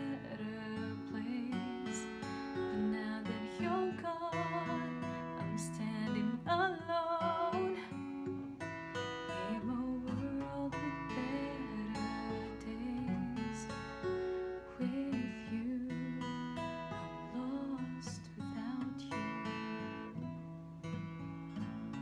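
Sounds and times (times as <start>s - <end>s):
woman singing: 0.0s - 8.7s, 9.3s - 20.0s
acoustic guitar: 0.0s - 22.0s.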